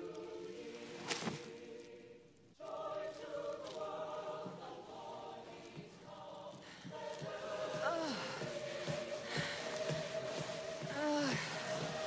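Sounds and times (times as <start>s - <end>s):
choir singing held chords: 0.0s - 12.0s.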